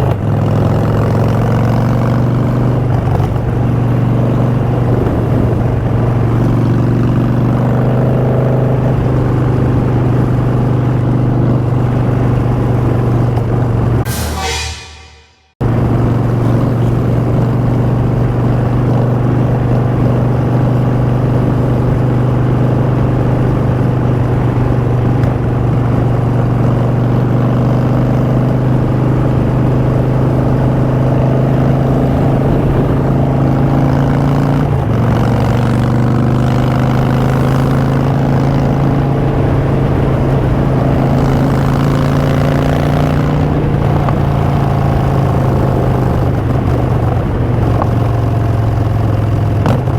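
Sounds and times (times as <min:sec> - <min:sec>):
motorcycle engine cruising: 0:00.0 - 0:49.9.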